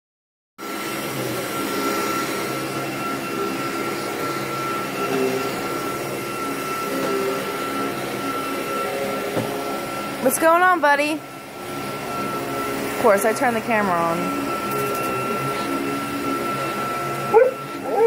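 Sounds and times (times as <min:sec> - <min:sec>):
vacuum cleaner running: 0:00.6 - 0:18.0.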